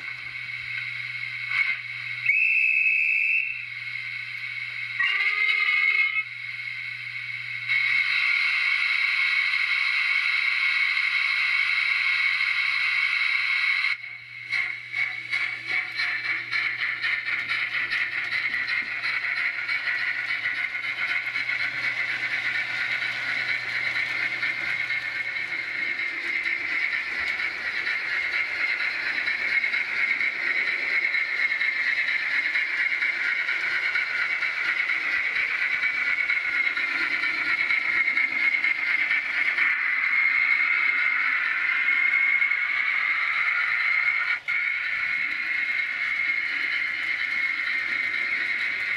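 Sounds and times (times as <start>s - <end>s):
model steam locomotive hiss: 0.0s - 48.9s
steam locomotive chuffs: 0.0s - 48.9s.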